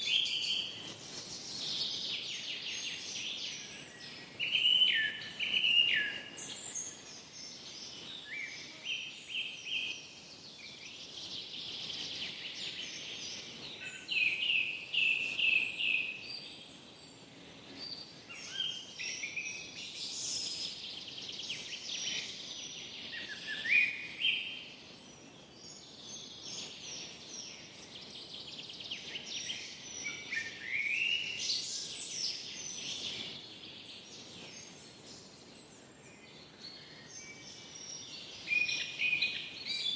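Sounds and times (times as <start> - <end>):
birds chirping and trilling: 0.0 - 39.9
faint steady hiss: 0.0 - 39.9.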